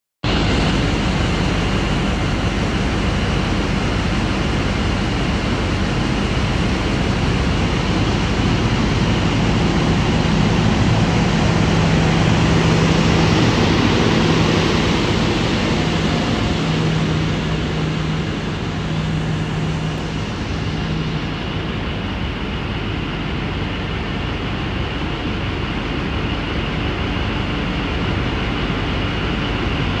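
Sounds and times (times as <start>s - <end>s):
haul truck diesel drone: 0.2s - 30.0s.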